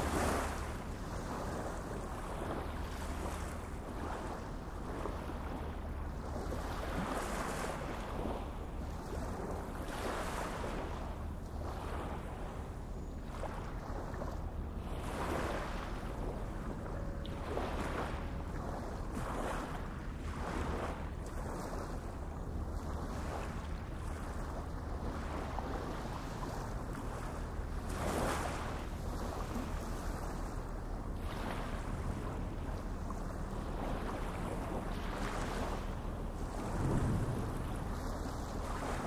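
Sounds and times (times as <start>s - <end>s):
sea water washing: 0.0s - 39.0s
steady low hum: 0.0s - 39.0s
wind on microphone: 0.0s - 39.0s.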